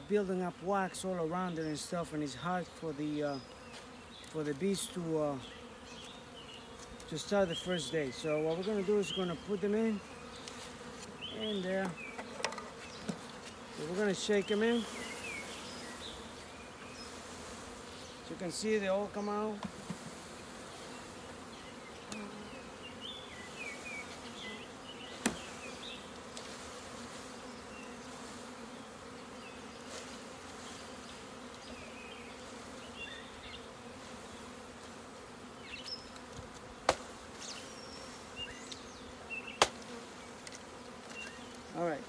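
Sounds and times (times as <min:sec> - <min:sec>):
honey bees buzzing: 0:00.0 - 0:42.0.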